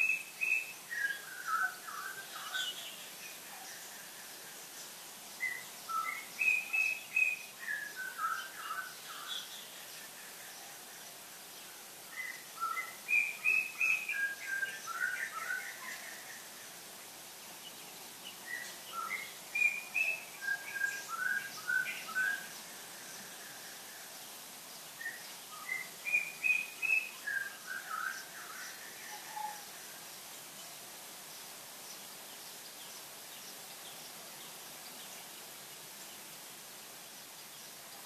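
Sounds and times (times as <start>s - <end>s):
songbird singing clear notes: 0.0s - 16.8s, 17.5s - 36.4s
faint background hiss: 0.0s - 38.0s.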